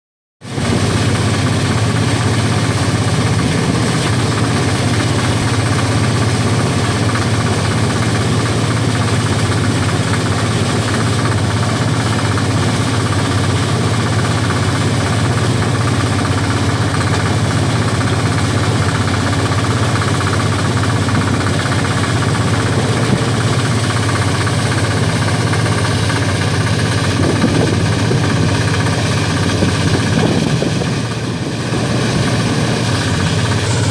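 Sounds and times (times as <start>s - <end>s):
rice thresher engine droning: 0.4s - 33.9s
spinning threshing drum: 0.4s - 33.9s.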